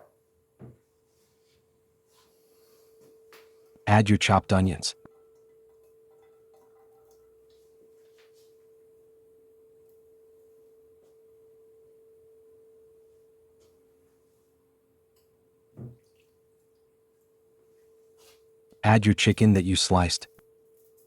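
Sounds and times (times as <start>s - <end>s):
faint steady tone: 0.6s - 21.0s.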